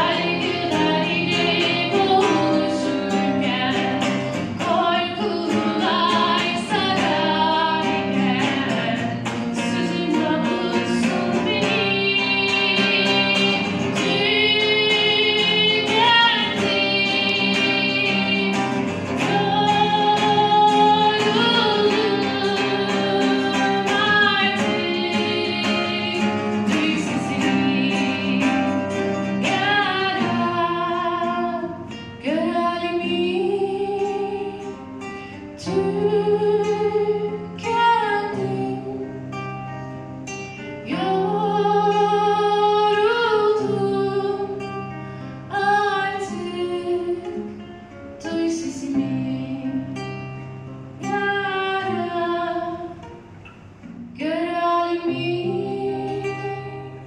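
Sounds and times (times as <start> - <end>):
acoustic guitars: 0.0 - 57.0
woman singing slow song: 0.0 - 57.0.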